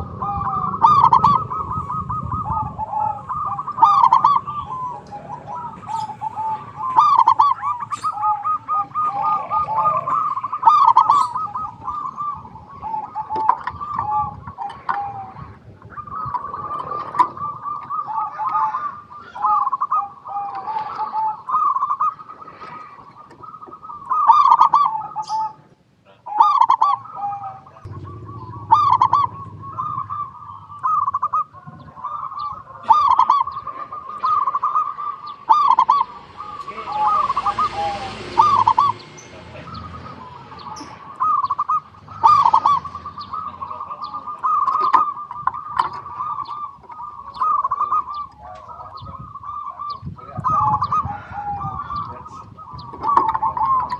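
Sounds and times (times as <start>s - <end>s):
doves cooing: 0.0s - 53.9s.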